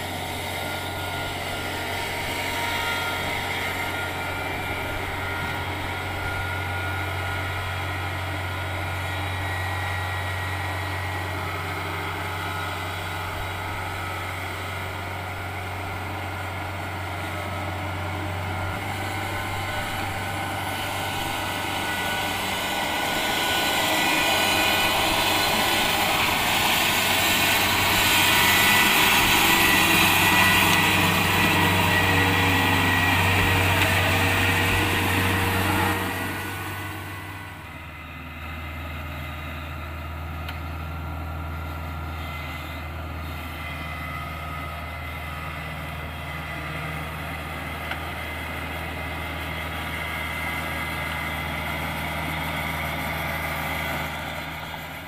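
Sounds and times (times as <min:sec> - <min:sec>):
diesel engine drone: 0:00.0 - 0:55.0
high-pitched machinery whine: 0:00.0 - 0:55.0.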